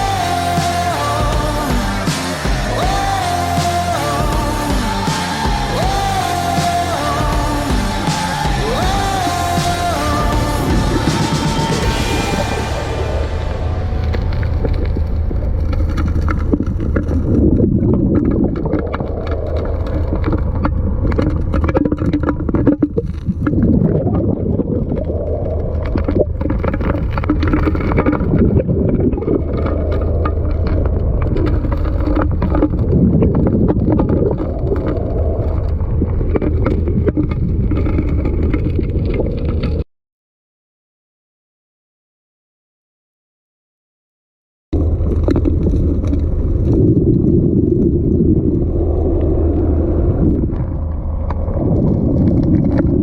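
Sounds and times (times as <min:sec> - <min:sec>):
water churning and gurgling: 0:00.0 - 0:39.8, 0:44.8 - 0:53.0.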